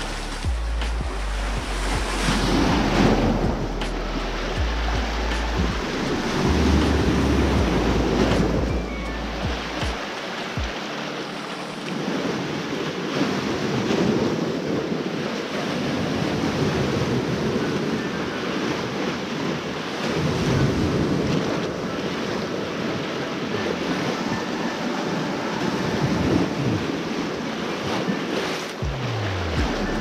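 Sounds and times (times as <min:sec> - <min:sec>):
wind gusting on microphone: 0:00.0 - 0:11.0, 0:11.9 - 0:30.0
sea waves on shore: 0:00.0 - 0:30.0.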